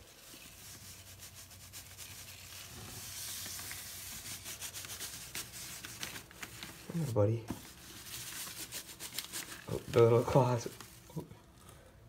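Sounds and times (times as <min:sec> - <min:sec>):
cloth bag rubbing over newspaper: 0:00.0 - 0:11.1
paper crackles: 0:00.0 - 0:11.2.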